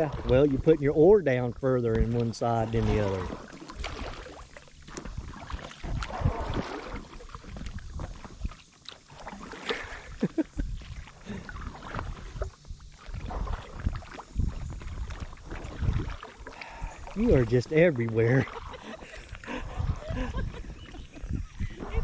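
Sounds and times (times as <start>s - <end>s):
paddles splashing in water: 0.0s - 22.0s.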